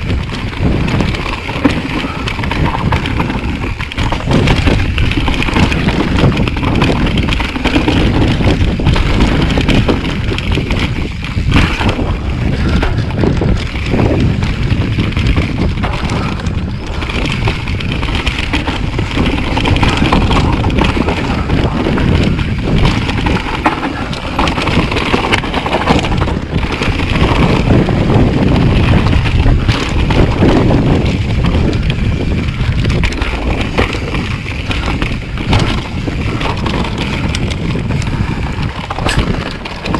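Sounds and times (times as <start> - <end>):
bike tyres rolling over dirt: 0.0 - 39.9
wind buffeting microphone: 0.0 - 39.9.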